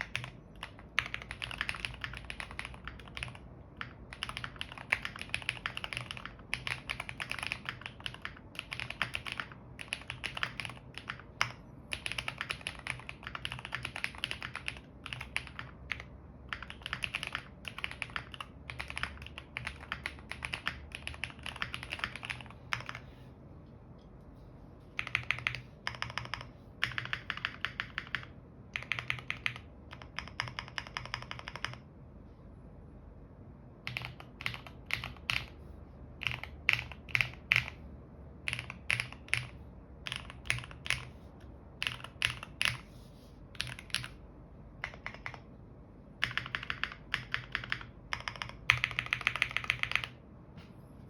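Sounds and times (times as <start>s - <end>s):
mechanical keyboard typing: 0.0s - 23.1s, 25.0s - 31.9s, 33.8s - 35.6s, 36.2s - 37.8s, 38.4s - 42.9s, 43.5s - 44.2s, 44.8s - 45.5s, 46.2s - 50.2s.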